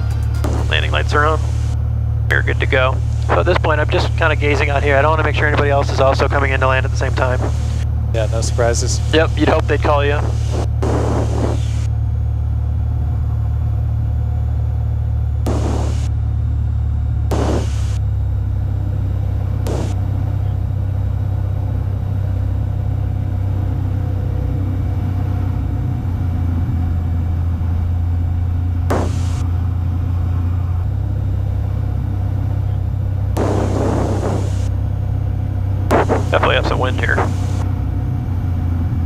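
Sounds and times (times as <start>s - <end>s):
propeller plane engine droning: 0.0s - 39.0s.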